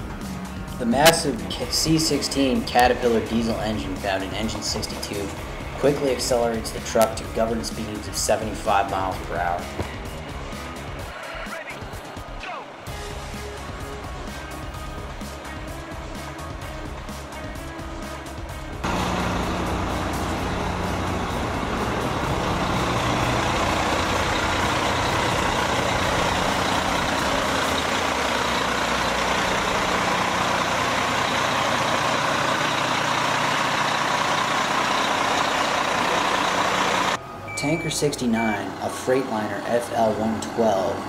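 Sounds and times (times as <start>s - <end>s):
diesel engine running: 0.0s - 11.1s, 12.8s - 41.0s.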